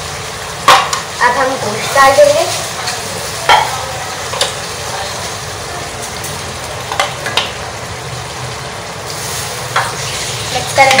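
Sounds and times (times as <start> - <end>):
masala sizzling in a wok: 0.0 - 11.0.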